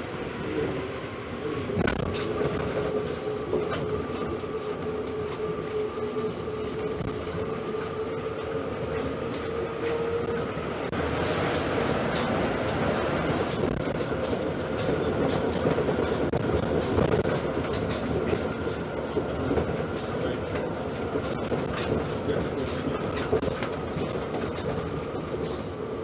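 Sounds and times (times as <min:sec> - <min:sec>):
metro train running rumble: 0:00.0 - 0:26.0.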